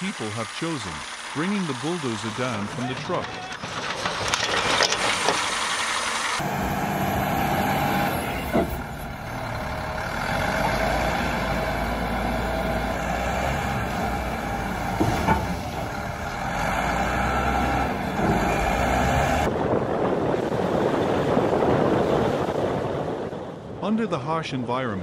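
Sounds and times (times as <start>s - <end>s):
heavy diesel engine under load: 0.0s - 22.0s.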